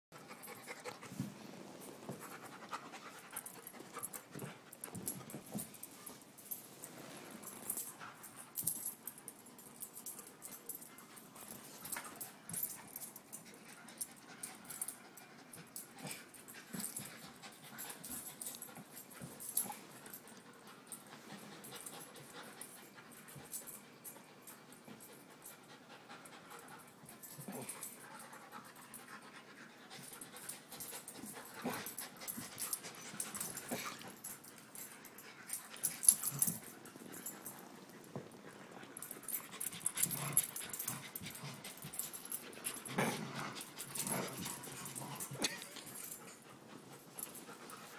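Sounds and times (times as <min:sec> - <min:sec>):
dogs panting: 0:00.2 - 0:06.6, 0:07.6 - 0:47.9.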